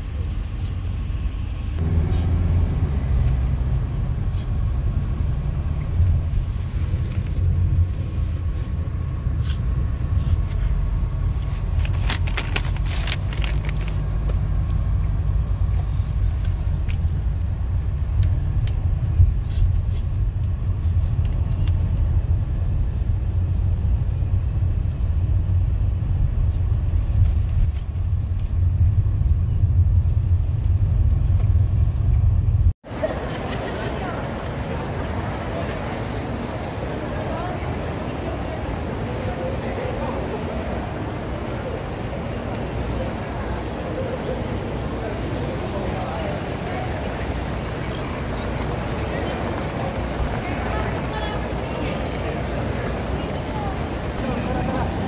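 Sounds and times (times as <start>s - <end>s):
van driving rumble: 0.0s - 55.0s.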